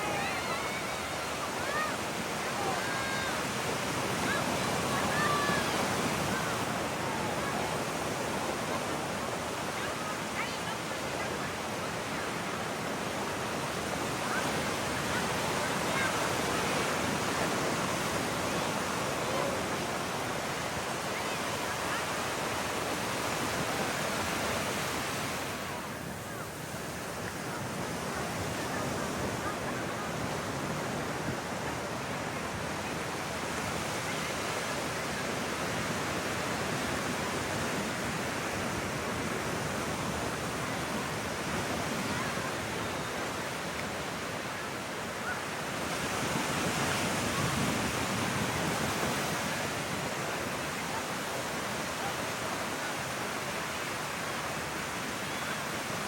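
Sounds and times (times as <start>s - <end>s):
ocean surf washing ashore: 0.0s - 56.0s.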